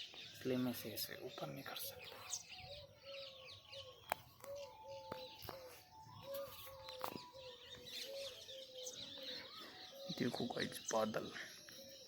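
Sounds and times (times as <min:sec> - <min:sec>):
birds chirping and twittering: 0:00.0 - 0:12.0
bird hooting: 0:01.9 - 0:12.0.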